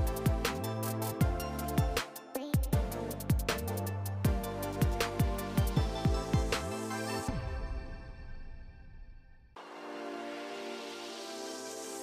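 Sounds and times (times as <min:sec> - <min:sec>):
background music sustained tones: 0:00.0 - 0:12.0.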